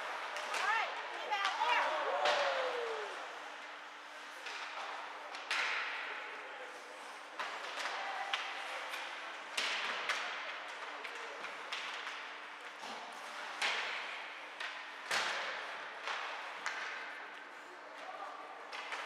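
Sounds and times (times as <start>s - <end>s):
sticks and puck clacking on ice: 0.0s - 2.6s, 3.4s - 19.0s
faint rink hum: 0.0s - 19.0s.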